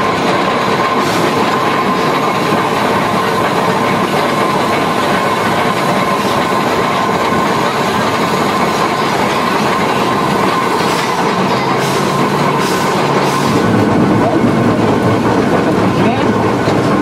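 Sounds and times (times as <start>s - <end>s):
rail clicks: 0.0s - 17.0s
steam locomotive running gear rumble: 0.0s - 17.0s
thin steady whine: 0.0s - 17.0s.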